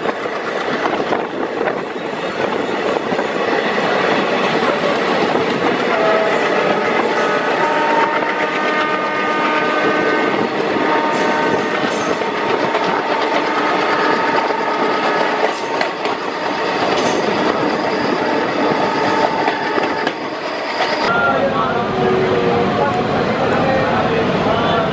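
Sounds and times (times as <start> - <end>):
train wheels rumbling on track: 0.0 - 24.9.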